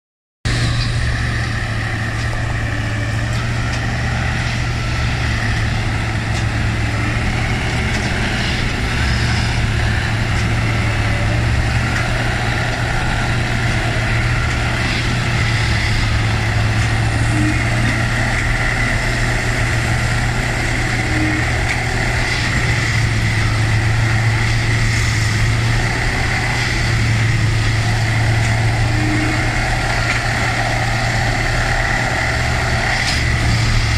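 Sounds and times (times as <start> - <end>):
diesel engine droning: 0.4 - 33.9.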